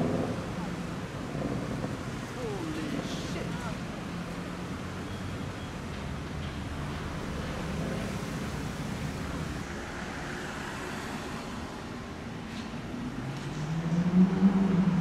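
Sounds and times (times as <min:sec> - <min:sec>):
passing cars engine rumble: 0:00.0 - 0:15.0.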